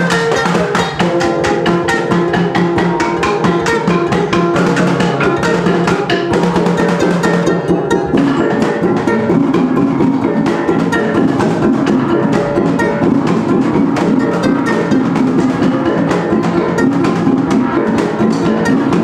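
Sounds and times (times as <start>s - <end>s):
gong and drum ensemble: 0.0s - 19.0s.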